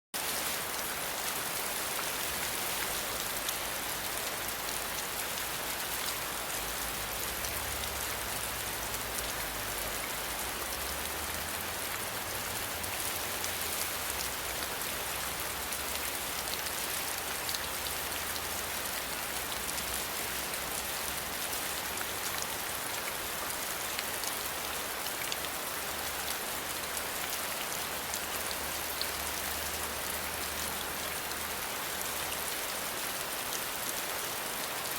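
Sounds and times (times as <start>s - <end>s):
rain falling: 0.2s - 34.9s.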